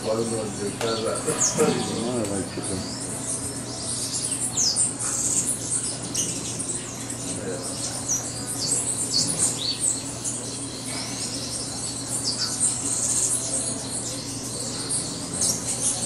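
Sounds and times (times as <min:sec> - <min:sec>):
birds chirping and twittering: 0:00.0 - 0:16.0
steady low hum: 0:00.0 - 0:16.0.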